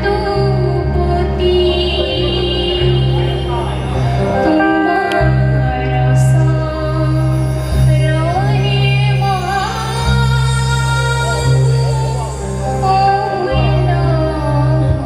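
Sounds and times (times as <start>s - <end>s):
instrumental accompaniment: 0.0s - 15.0s
woman singing: 0.0s - 15.0s.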